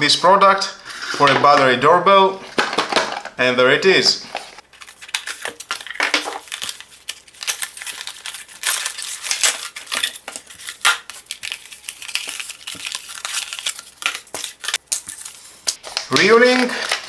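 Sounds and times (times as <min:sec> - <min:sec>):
packaging crinkling and rustling: 0:02.4 - 0:03.4, 0:04.2 - 0:17.0.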